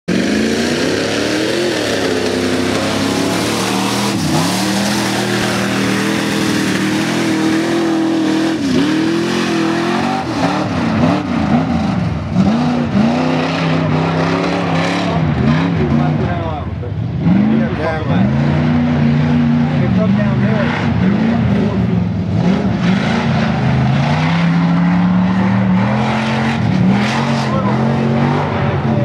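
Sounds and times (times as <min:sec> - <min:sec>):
race truck engine revving: 0:00.1 - 0:29.0.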